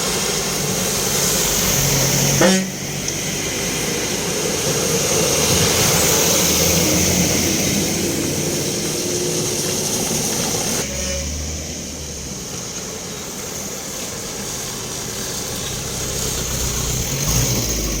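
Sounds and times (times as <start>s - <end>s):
high hiss: 0.0s - 18.0s
vehicle engine and road noise: 0.0s - 18.0s.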